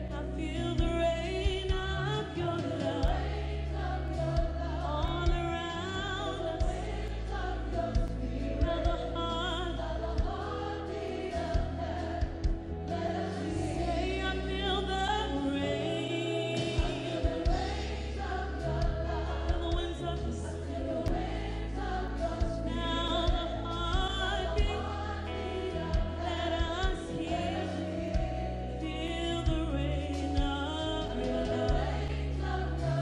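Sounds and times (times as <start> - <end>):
choir singing: 0.0 - 33.0
keyboards bass and drums: 0.0 - 33.0
woman singing lead: 0.0 - 33.0.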